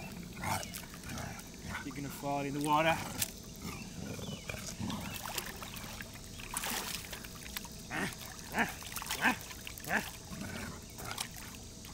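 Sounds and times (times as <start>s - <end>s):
pool water splashing: 0.0s - 11.9s.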